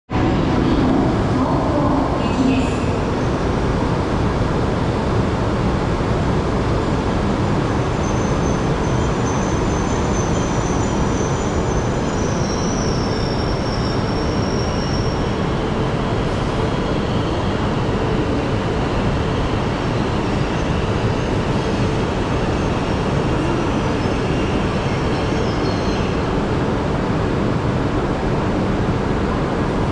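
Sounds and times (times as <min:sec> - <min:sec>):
train running at speed: 0:00.1 - 0:29.9.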